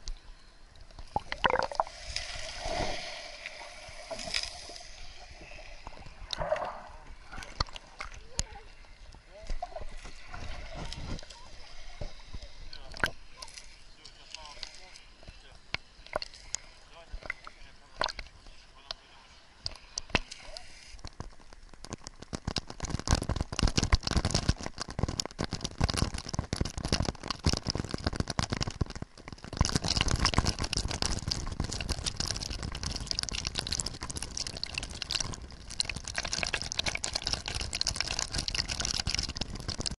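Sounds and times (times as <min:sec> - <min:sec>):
sea water splashing: 0:01.0 - 0:39.9.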